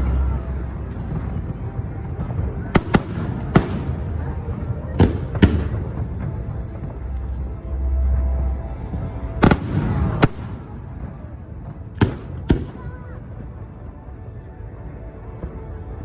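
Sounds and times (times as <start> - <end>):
fireworks bangs: 0.0 - 13.2
fireworks rumble: 0.0 - 16.0.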